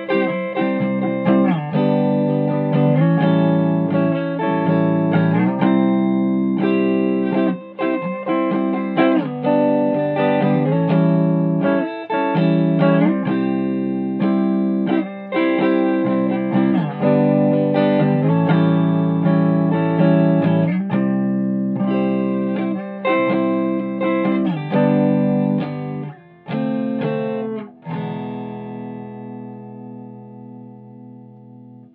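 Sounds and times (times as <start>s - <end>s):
electric guitar strumming chords: 0.0s - 31.9s.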